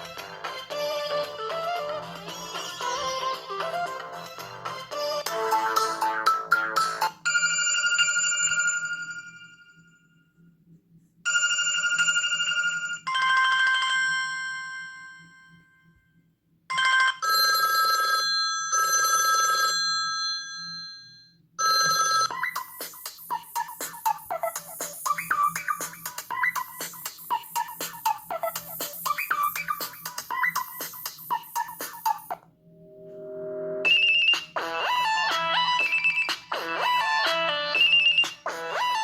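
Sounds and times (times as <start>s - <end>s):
musical ringtone: 0.0s - 10.2s, 16.8s - 39.0s.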